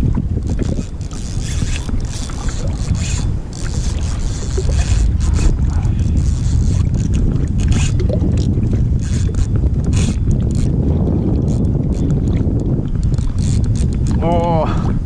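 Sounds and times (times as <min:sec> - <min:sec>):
water lapping against kayak: 0:00.0 - 0:15.0
wind rumbling on microphone: 0:00.0 - 0:15.0.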